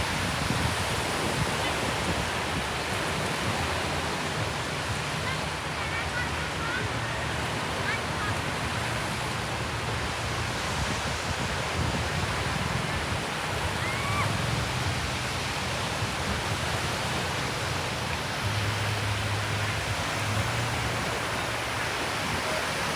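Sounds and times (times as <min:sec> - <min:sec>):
surf washing onto a beach: 0:00.0 - 0:22.9.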